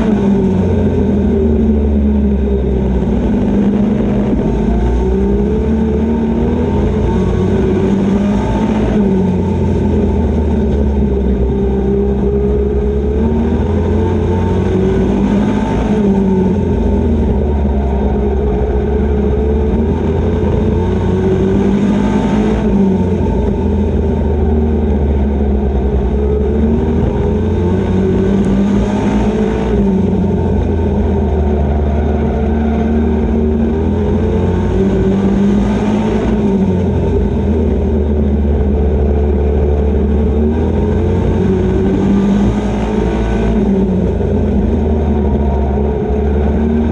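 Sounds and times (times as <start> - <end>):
racing truck engine revving: 0.0 - 46.9.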